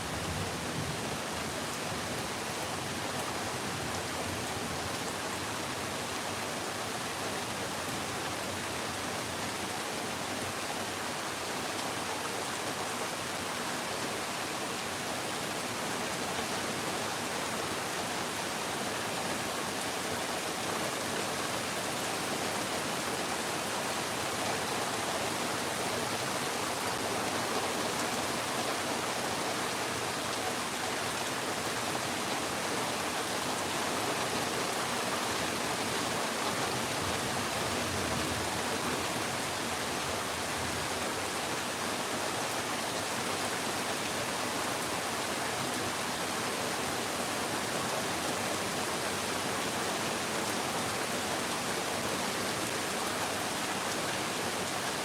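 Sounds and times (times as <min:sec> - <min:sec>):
steady rain pouring: 0:00.0 - 0:55.0.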